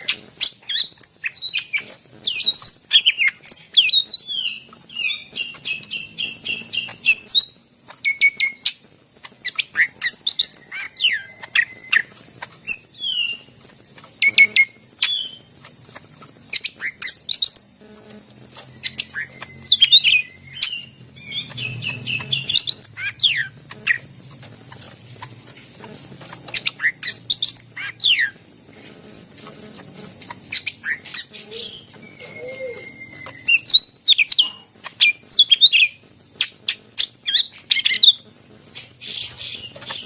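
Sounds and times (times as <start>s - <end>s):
bird singing whistles and trills: 0.0s - 13.6s, 14.2s - 15.5s, 16.4s - 17.8s, 18.7s - 25.4s, 26.4s - 28.4s, 30.3s - 40.0s.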